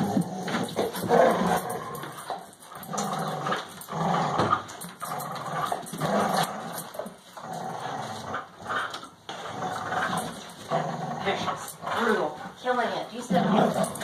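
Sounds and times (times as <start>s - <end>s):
dogs growling in play: 0.0s - 14.0s.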